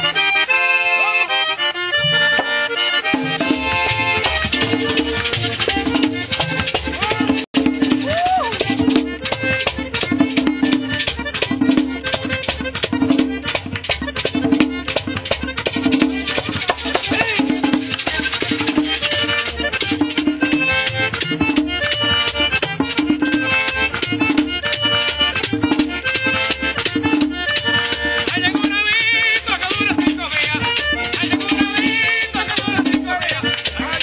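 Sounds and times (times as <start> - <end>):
lively instrumental music: 0.0 - 34.0.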